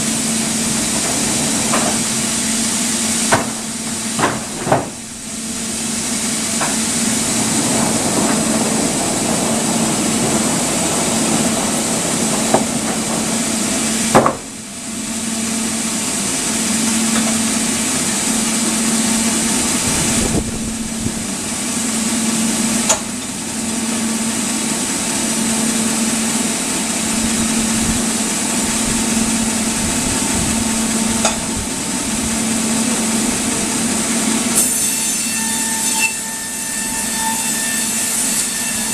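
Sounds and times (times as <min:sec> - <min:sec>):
sawmill machinery hissing: 0:00.0 - 0:38.9.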